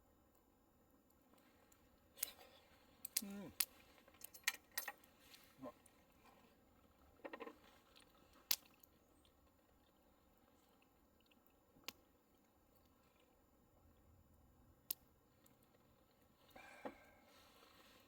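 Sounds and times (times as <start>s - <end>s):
small ticks: 0.3s - 6.2s, 7.2s - 17.2s
faint chewing: 0.3s - 18.0s.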